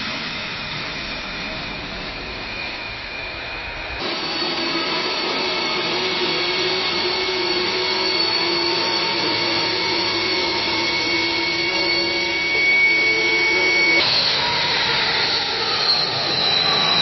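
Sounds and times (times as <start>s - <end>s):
jet plane taking off: 0.0s - 17.0s.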